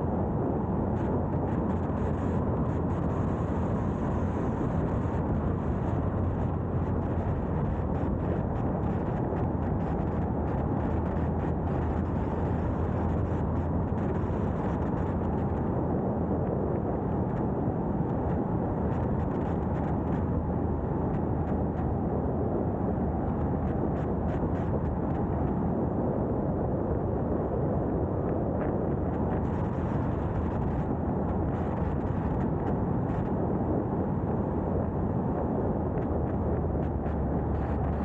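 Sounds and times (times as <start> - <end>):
tyre and wind noise: 0.0 - 38.0.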